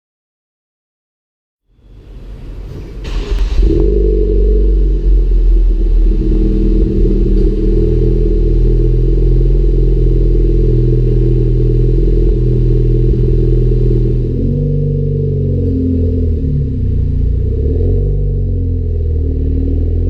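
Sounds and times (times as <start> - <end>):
car engine idling: 1.7 - 20.0.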